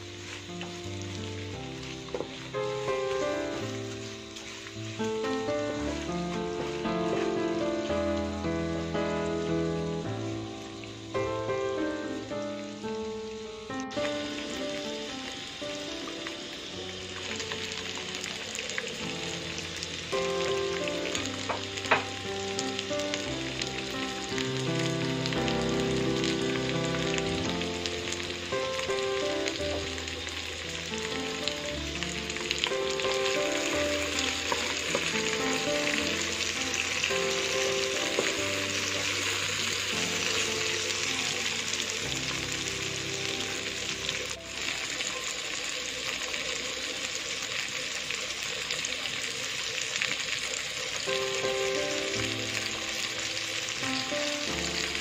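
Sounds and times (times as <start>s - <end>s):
background music: 0.0s - 46.8s, 51.0s - 55.0s
vegetables frying in oil: 0.0s - 55.0s.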